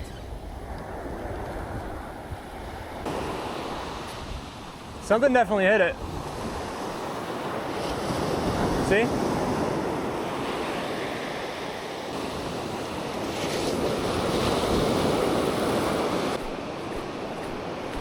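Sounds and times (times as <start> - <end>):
wind buffeting microphone: 0.0 - 5.3, 5.9 - 11.4, 12.1 - 18.0
surf washing onto beach: 0.4 - 18.0.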